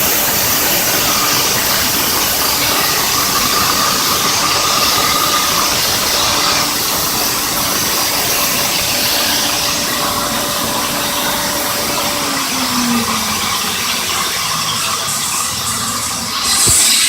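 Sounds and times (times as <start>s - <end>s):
motor hum: 0.0s - 17.0s
sawmill hissing: 0.0s - 17.0s.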